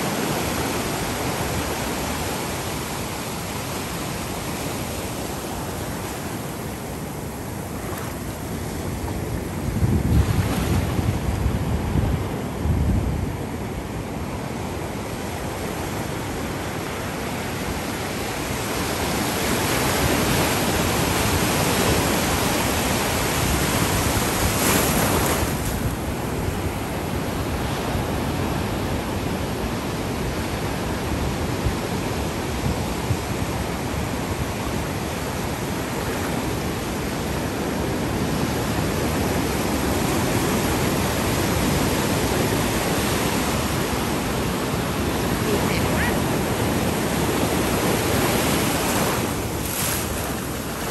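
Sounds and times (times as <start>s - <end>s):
ocean waves breaking: 0.0s - 12.6s, 13.2s - 50.9s.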